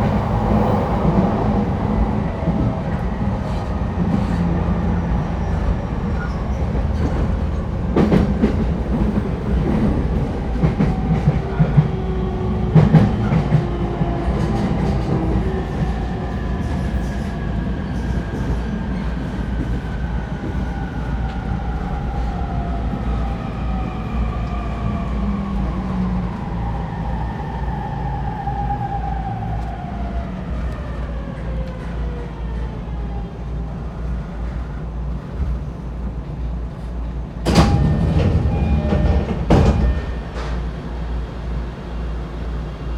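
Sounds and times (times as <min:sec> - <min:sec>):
train wheel and rail rumble: 0:00.0 - 0:42.9.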